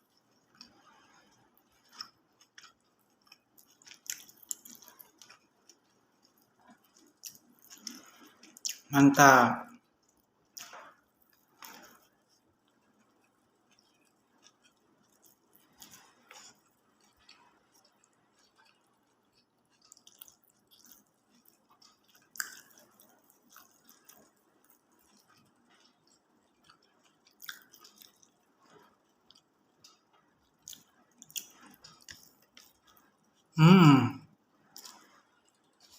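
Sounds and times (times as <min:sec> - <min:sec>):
close-miked chewing and mouth sounds: 0:00.0 - 0:08.9, 0:09.7 - 0:33.6, 0:34.2 - 0:35.9.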